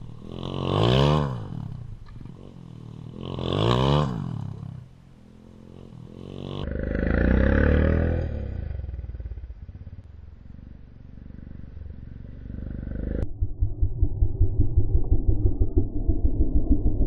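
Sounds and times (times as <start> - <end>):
close low pulsing engine: 0.0 - 17.0
motorbike engine passing by: 0.0 - 17.0.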